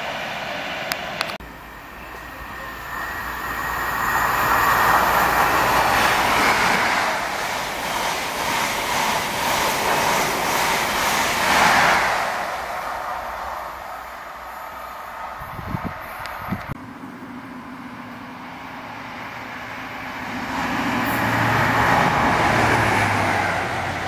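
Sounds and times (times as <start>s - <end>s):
train wheels rushing on rails: 0.0s - 24.0s.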